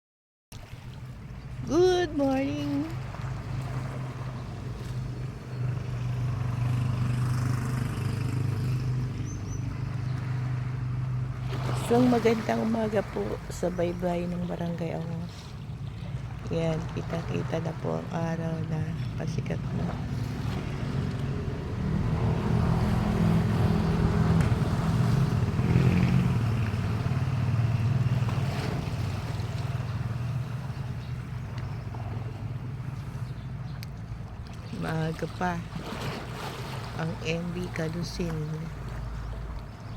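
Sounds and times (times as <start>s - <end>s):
engine droning: 0.6s - 39.9s.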